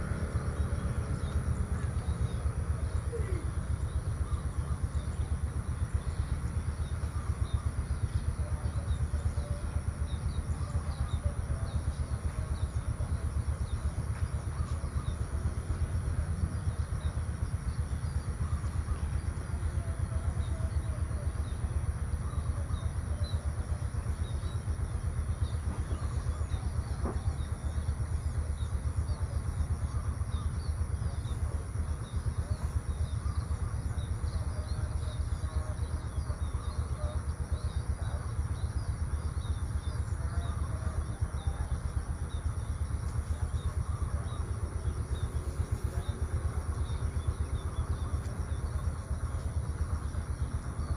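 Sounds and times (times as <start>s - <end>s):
small birds chirping: 0.0s - 50.9s
steady low rumble: 0.0s - 50.9s.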